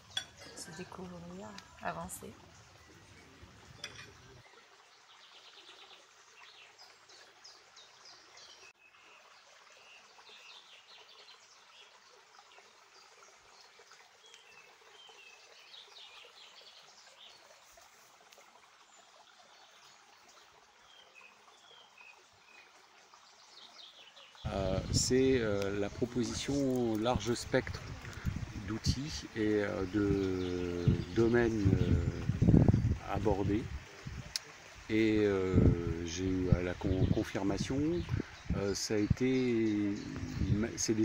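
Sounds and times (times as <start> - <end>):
birds chirping: 0.0 - 12.0, 18.8 - 41.0
light outdoor hiss: 0.0 - 41.0.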